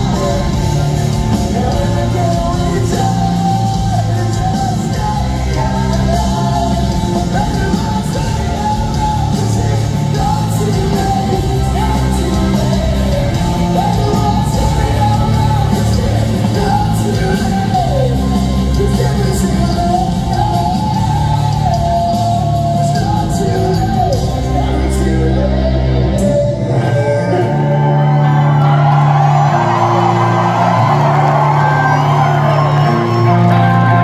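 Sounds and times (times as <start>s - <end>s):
man singing: 0.0s - 28.7s
drums: 0.0s - 34.0s
electric guitars: 0.0s - 34.0s.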